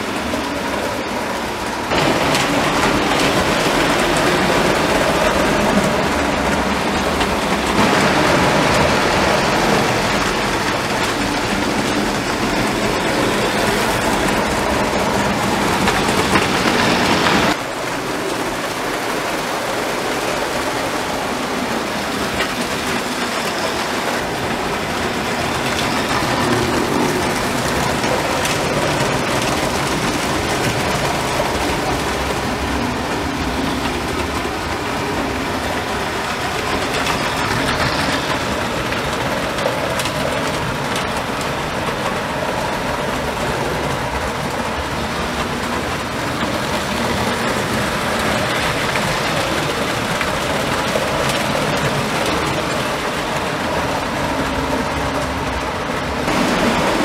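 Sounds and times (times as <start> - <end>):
model train wheels on rails: 0.0 - 57.0.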